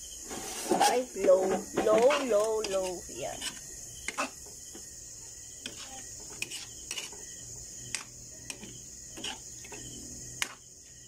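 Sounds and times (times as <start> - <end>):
metal spatula scraping a wok: 0.2 - 4.4, 5.6 - 10.7.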